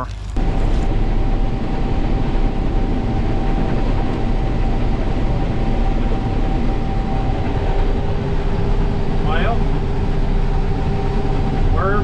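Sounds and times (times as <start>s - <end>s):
combine harvester running: 0.1s - 12.0s
steady machine whine: 0.3s - 12.0s.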